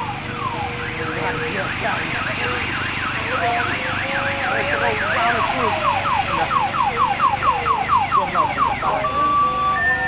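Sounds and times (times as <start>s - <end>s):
electronic siren warbling: 0.0s - 10.0s.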